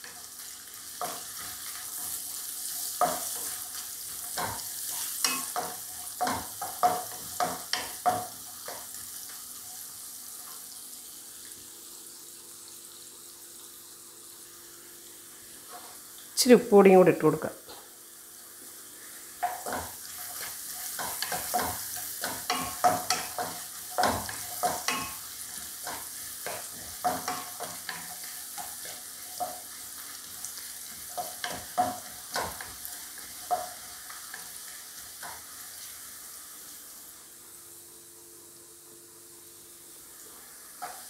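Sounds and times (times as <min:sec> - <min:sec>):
coconut sizzling in oil: 0:00.0 - 0:16.4, 0:17.9 - 0:41.0.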